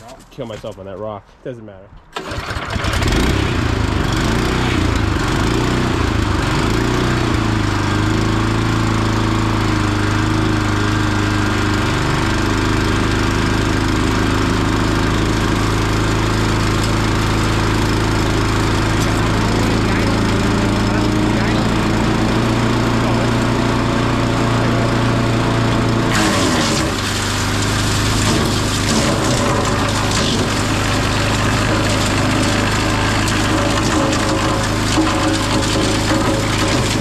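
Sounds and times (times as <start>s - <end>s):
wood chipper engine running: 2.1s - 37.0s.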